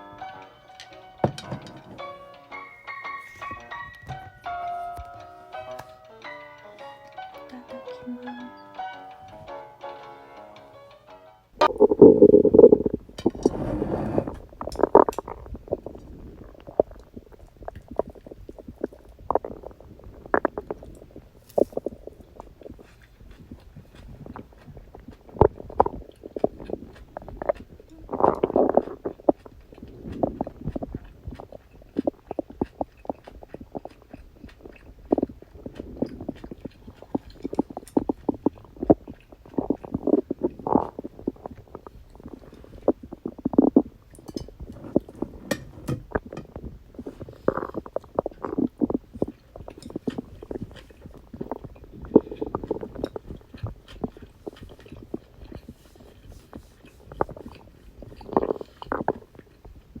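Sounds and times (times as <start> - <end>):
stomach gurgling and growling: 1.2 - 5.6, 11.6 - 60.0.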